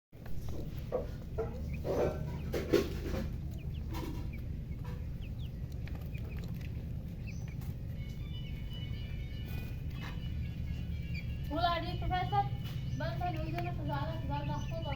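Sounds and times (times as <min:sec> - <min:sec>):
chickens clucking: 0:00.2 - 0:14.9
chicks chirping: 0:00.2 - 0:14.9
steady low hum: 0:00.2 - 0:14.9.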